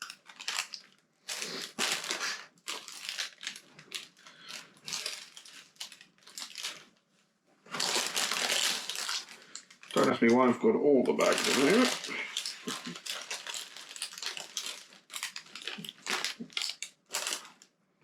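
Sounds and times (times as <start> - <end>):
plastic bags crinkling: 0.0 - 7.1, 7.7 - 17.7.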